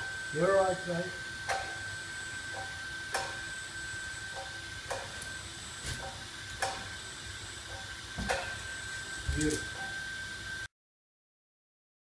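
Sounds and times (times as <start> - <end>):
high-pitched hum: 0.0 - 10.7.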